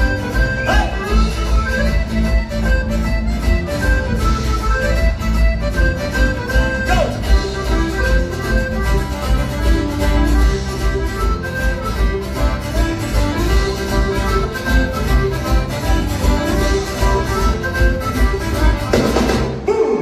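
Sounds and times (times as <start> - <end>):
accordion: 0.0 - 19.7
folk-rock band playing live: 0.0 - 19.7
guitars: 0.0 - 20.0.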